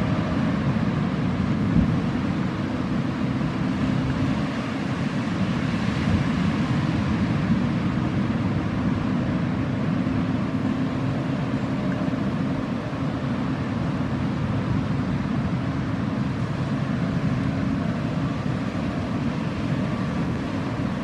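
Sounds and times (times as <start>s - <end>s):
outboard motor droning: 0.0s - 21.0s.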